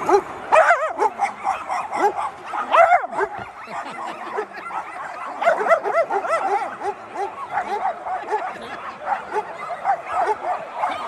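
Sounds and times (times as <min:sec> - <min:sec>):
dogs yipping and barking: 0:00.0 - 0:11.0.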